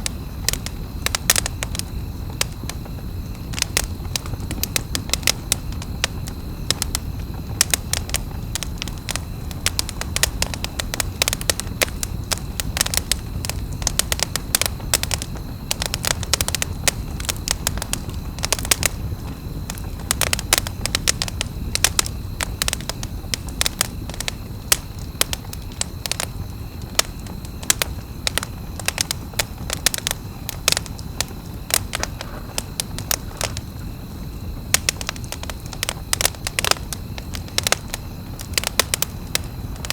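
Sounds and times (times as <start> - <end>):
campfire crackling: 0.0 - 39.9
fire snaps and pops: 0.0 - 39.9.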